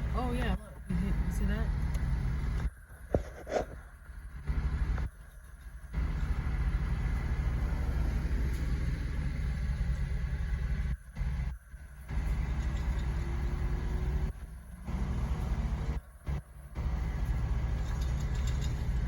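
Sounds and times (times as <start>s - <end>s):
car engine rumble from inside: 0.0s - 19.0s.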